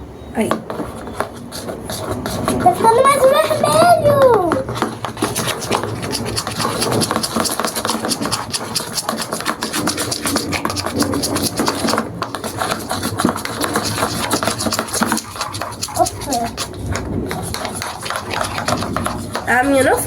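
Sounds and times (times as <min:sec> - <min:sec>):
spoon stirring slime: 0:00.4 - 0:20.0.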